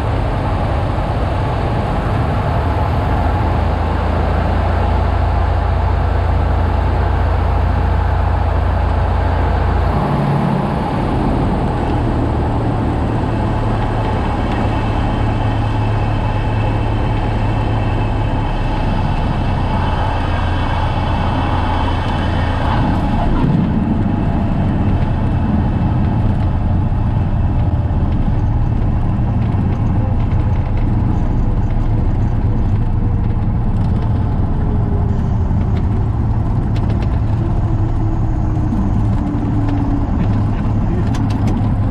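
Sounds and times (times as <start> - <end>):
airplane piston engine in flight: 0.0 - 41.9.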